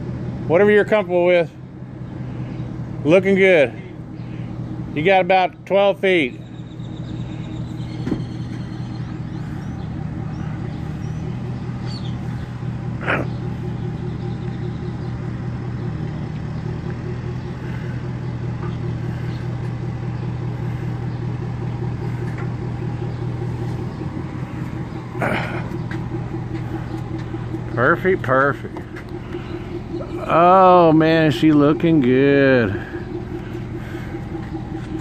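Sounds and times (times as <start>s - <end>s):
vehicle engine running at low speed: 0.0s - 35.0s.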